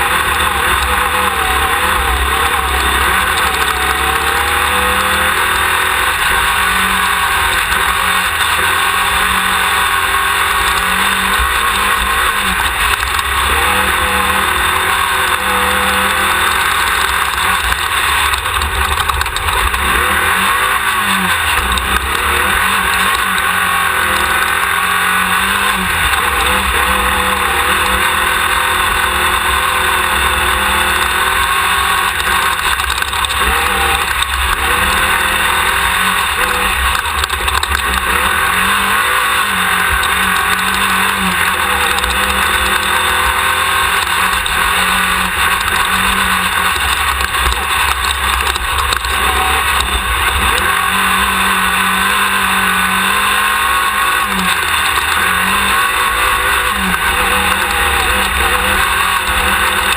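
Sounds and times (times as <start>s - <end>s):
buggy engine revving: 0.0s - 59.9s
drivetrain noise: 0.0s - 59.9s.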